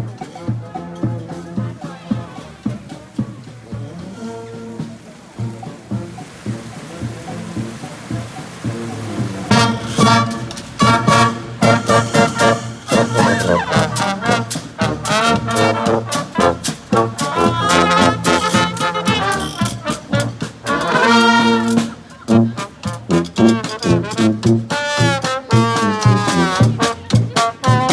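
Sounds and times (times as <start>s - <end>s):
brass band playing upbeat tune: 0.0s - 27.9s.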